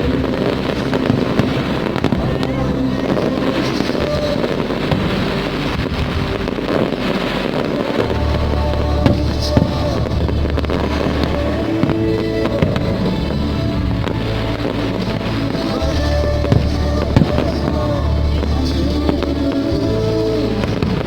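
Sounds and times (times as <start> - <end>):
fireworks bangs: 0.0 - 19.8
music with heavy bass: 0.0 - 21.0.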